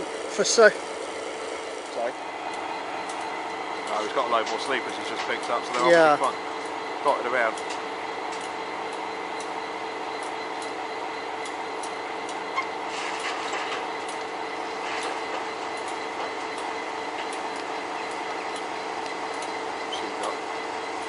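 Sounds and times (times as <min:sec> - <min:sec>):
heavy machinery drone with whine: 0:00.0 - 0:21.0.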